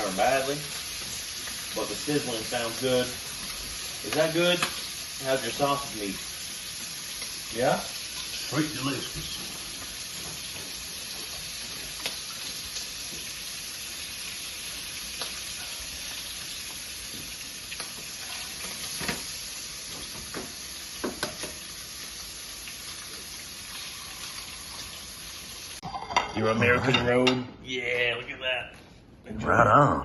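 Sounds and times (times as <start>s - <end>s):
utensil stirring in pan: 0.0s - 26.1s
sausage meat sizzling in a pan: 0.0s - 26.3s.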